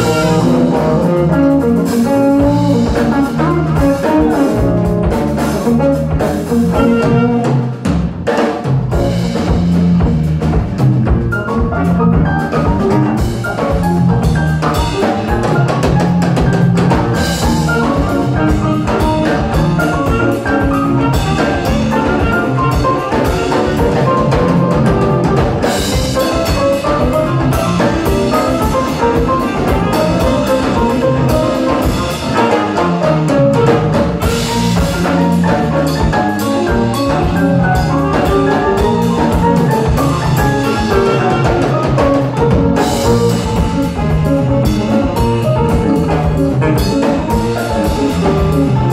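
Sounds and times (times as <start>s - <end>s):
saxophone: 0.0s - 7.9s, 16.8s - 48.9s
drum kit: 0.0s - 48.9s
electric bass: 0.0s - 48.9s
guitar: 0.0s - 48.9s.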